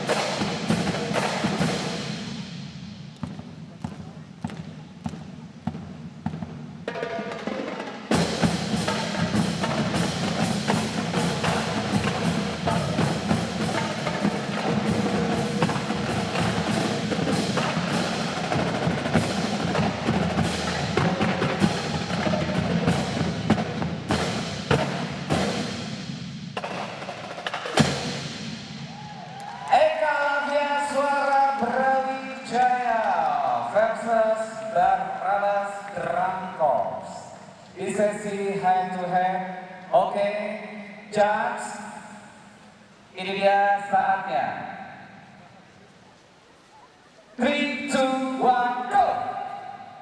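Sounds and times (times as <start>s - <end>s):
marching drum line cadence: 0.0s - 43.4s.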